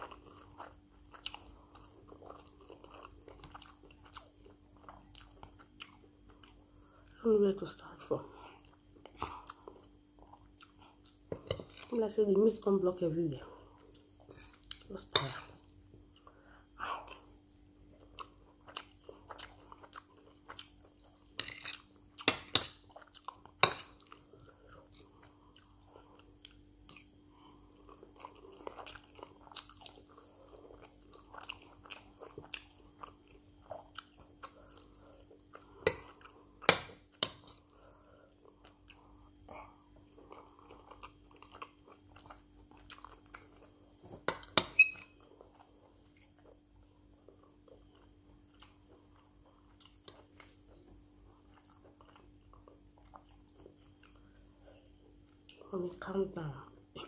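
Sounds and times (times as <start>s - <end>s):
wet chewing sounds: 0.0s - 12.8s, 13.5s - 56.1s.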